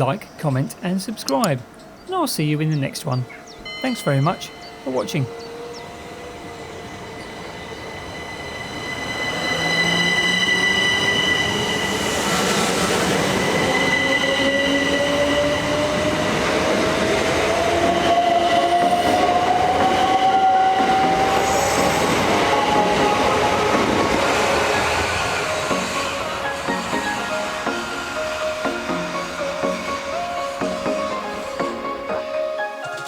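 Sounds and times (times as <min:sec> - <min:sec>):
steady high-pitched tones: 0:02.4 - 0:16.5, 0:17.8 - 0:32.6
electric train motor whine: 0:03.6 - 0:32.4.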